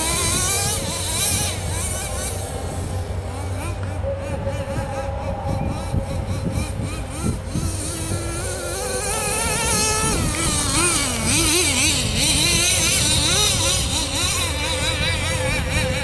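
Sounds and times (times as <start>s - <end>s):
small glow engine buzzing: 0.0s - 16.0s.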